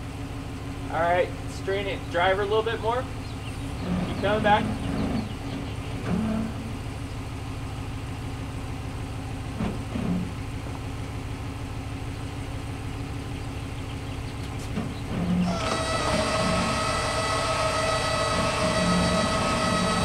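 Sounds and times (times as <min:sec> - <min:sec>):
pickup truck engine idling: 0:00.0 - 0:20.0.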